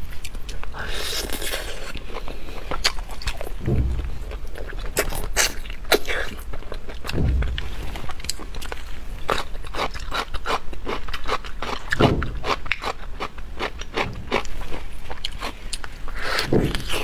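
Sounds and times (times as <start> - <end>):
wet chewing and smacking: 0.1 - 17.0.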